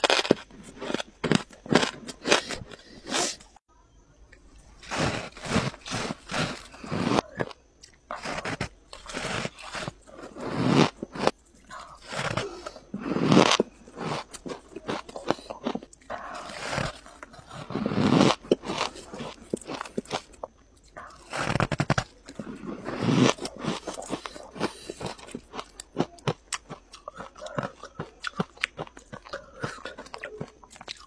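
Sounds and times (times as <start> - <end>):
crunchy frost chewing: 0.0 - 3.6, 4.3 - 31.0.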